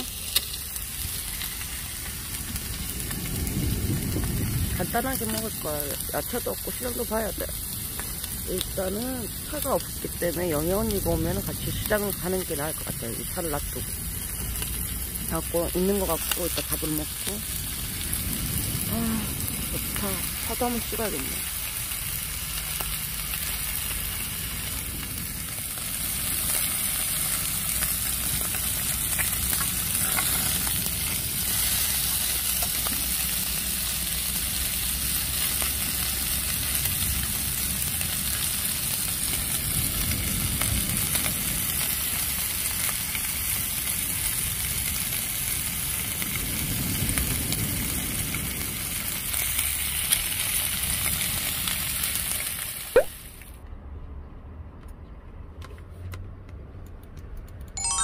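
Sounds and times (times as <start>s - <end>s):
pork sizzling in grill pan: 0.0s - 53.5s.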